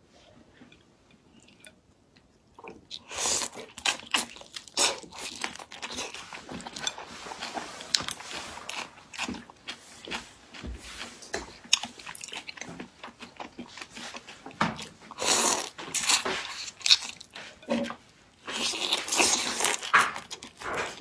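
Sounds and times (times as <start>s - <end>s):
crunchy chewing: 2.6s - 21.0s.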